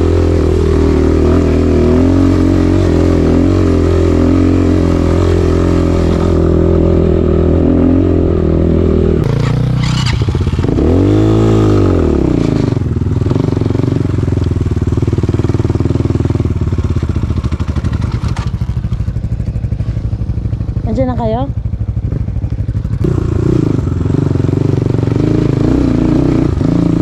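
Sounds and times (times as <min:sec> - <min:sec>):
dirt bike engine revving: 0:00.0 - 0:19.2, 0:22.0 - 0:27.0.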